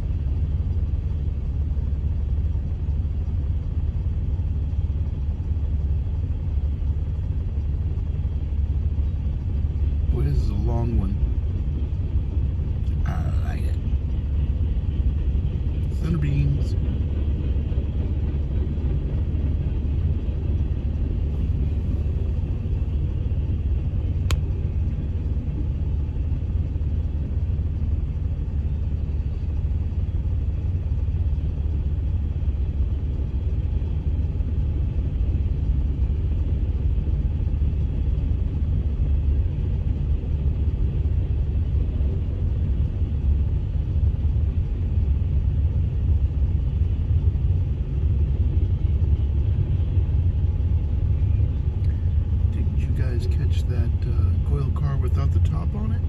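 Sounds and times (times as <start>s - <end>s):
freight train low rumble: 0.0s - 56.0s.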